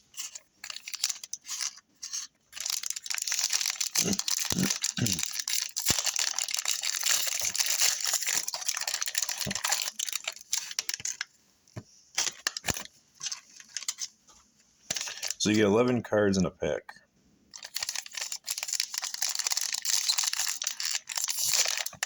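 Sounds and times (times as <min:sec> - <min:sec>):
foil wrapper crinkling and tearing: 0:00.0 - 0:11.3, 0:12.2 - 0:14.2, 0:14.9 - 0:15.5, 0:17.5 - 0:22.0.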